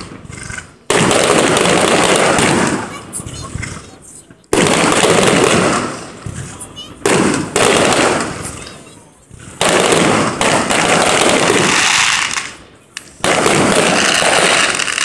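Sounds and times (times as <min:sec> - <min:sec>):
fireworks bangs and crackle: 0:00.0 - 0:15.0.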